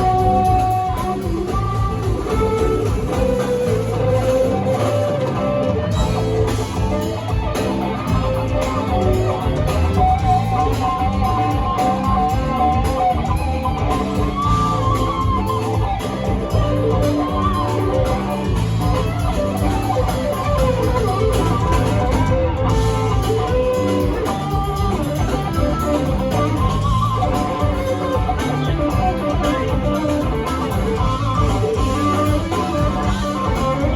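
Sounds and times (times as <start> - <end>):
bass guitar: 0.0 - 33.9
drum beat: 0.0 - 33.9
electric guitar lead: 0.0 - 33.9.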